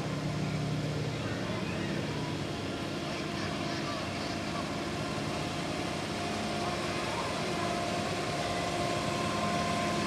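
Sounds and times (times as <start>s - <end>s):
miniature locomotive passing: 0.0s - 10.0s.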